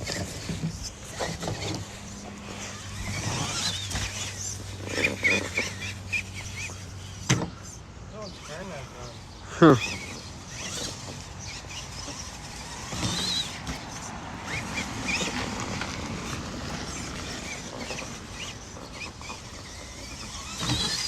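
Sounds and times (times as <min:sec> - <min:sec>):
rc truck driving: 0:00.0 - 0:21.0.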